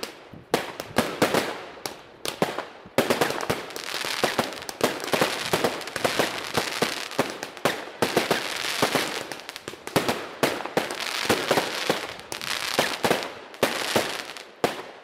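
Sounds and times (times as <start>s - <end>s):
continuous hissing crackle: 0.0s - 15.0s
firework bangs and crackles: 0.0s - 15.0s.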